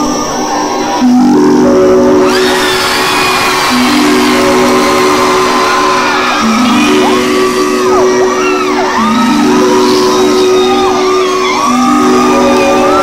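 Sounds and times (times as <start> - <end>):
keyboard chords: 0.0 - 13.0
gliding whoops: 2.2 - 13.0.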